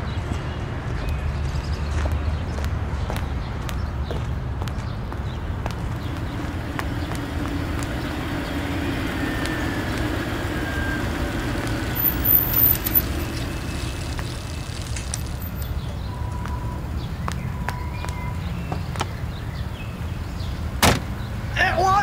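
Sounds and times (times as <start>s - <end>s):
engine hum: 0.0s - 22.0s
street traffic rumble: 0.0s - 22.0s.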